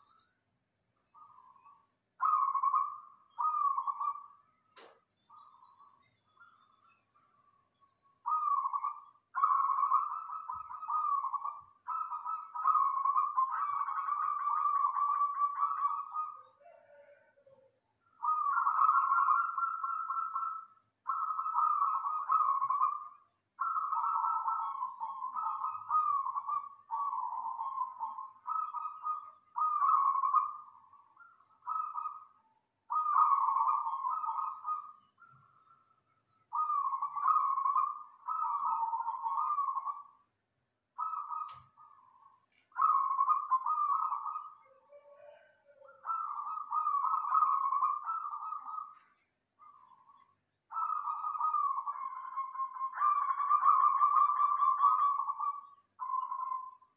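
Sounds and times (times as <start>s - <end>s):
dove cooing in trills: 1.2s - 6.6s, 8.2s - 35.9s, 36.5s - 40.3s, 41.0s - 56.9s.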